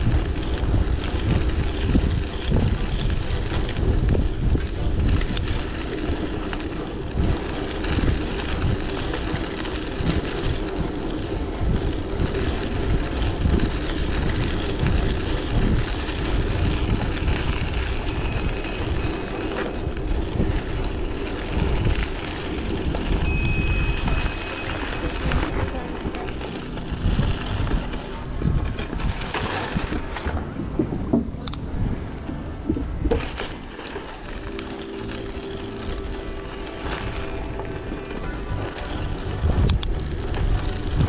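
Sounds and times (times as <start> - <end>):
bicycle tyres rumbling on path: 0.0 - 41.0
wind buffeting microphone: 0.0 - 41.0.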